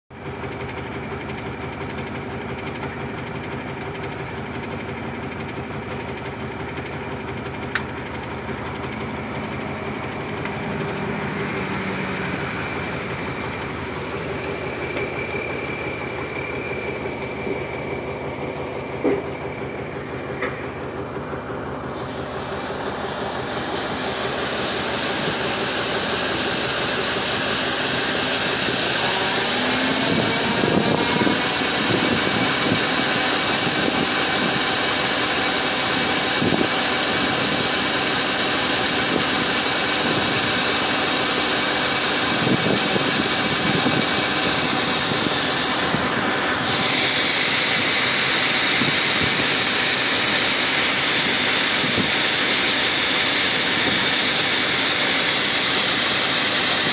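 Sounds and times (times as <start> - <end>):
combine harvester running: 0.0 - 56.9.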